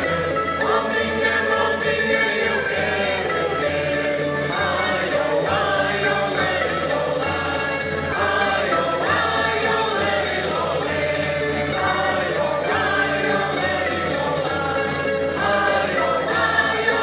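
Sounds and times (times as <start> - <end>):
guitars and string instruments: 0.0 - 17.0
mixed voices singing in chorus: 0.0 - 17.0.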